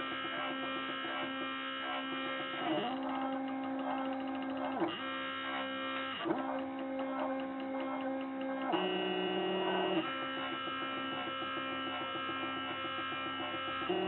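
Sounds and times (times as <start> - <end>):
cnc router motor whine: 0.0 - 14.0.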